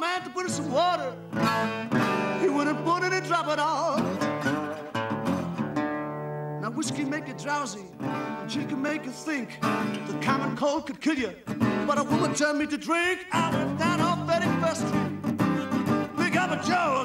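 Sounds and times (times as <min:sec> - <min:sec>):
man singing: 0:00.0 - 0:01.2, 0:02.0 - 0:04.6, 0:06.6 - 0:17.0
slide guitar blues: 0:00.0 - 0:17.0.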